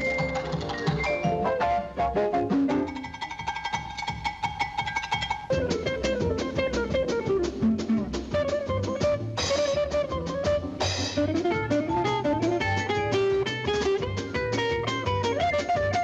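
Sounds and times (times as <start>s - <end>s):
jazzy cartoon music: 0.0s - 16.0s.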